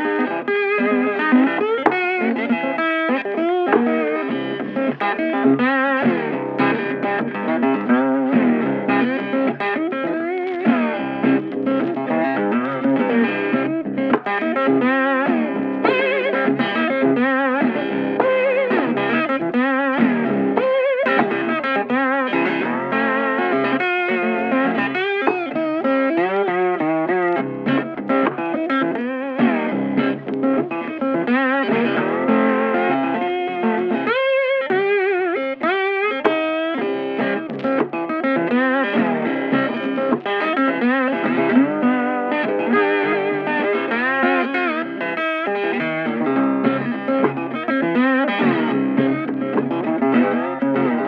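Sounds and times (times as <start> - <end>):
blues guitar music: 0.0 - 51.0.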